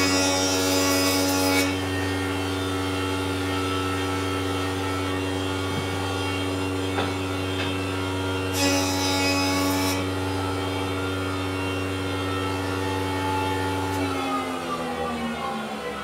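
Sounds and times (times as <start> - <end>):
jointer planing wooden board: 0.0 - 15.0
jointer humming: 0.0 - 16.0.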